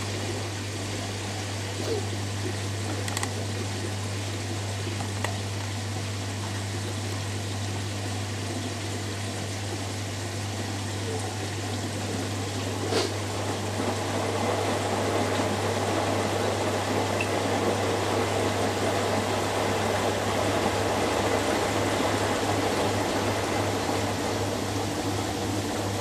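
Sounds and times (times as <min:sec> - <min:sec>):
constant low hum: 0:00.0 - 0:26.0
washing machines spinning: 0:00.0 - 0:26.0.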